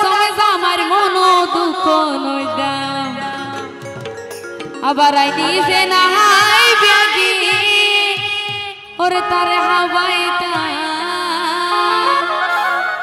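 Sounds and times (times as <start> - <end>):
woman singing folk song: 0.0 - 3.7, 4.8 - 12.3
instrumental backing: 0.0 - 13.0.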